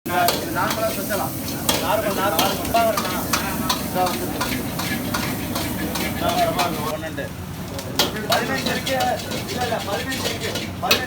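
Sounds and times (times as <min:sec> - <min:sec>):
food sizzling: 0:00.1 - 0:11.0
metal ladle clanking on wok: 0:00.2 - 0:06.9, 0:08.0 - 0:11.0.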